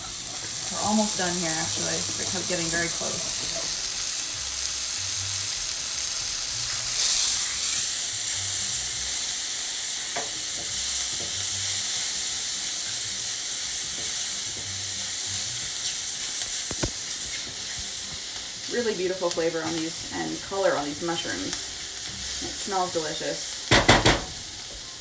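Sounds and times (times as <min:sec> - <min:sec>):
mushrooms sizzling in skillet: 0:00.0 - 0:25.0.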